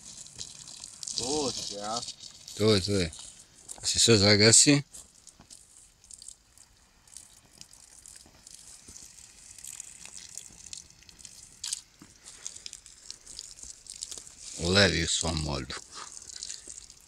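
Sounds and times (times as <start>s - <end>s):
embers hissing and crackling: 0.0s - 17.0s
water trickling: 0.0s - 17.0s.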